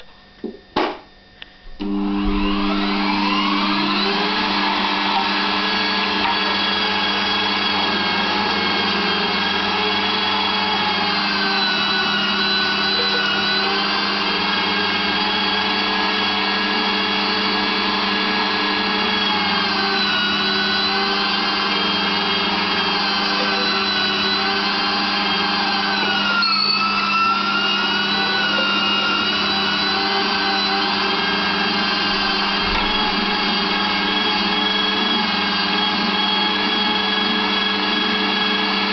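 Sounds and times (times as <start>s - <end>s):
high whistling whine: 1.6s - 38.9s
meat grinder motor humming: 1.7s - 38.9s.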